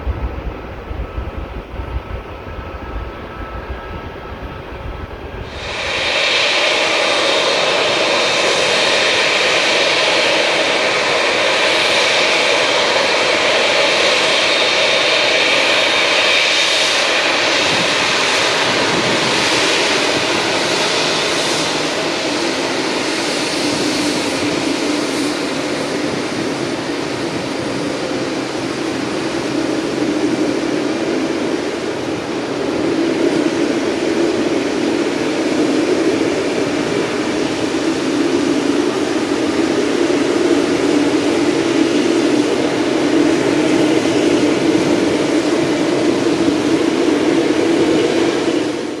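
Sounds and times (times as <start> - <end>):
jet airliner engines: 0.0 - 49.0.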